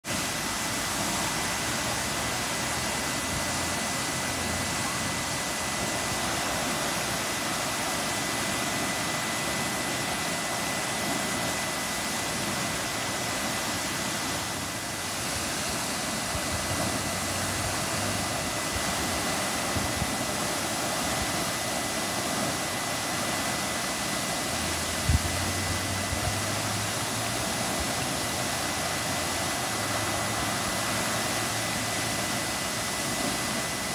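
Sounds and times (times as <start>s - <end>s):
water jet rushing hiss: 0.0s - 33.9s.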